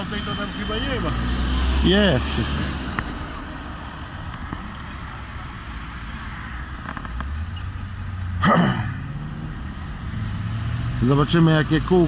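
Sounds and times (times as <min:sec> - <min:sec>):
rumble of wind and tyres: 0:00.0 - 0:12.0.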